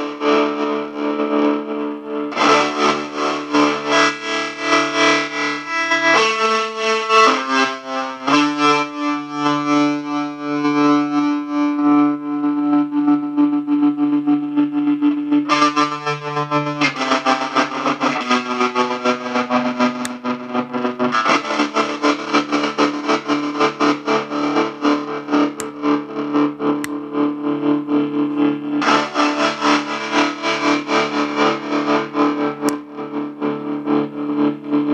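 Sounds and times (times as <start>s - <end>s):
distorted electric guitar chords: 0.0s - 34.9s.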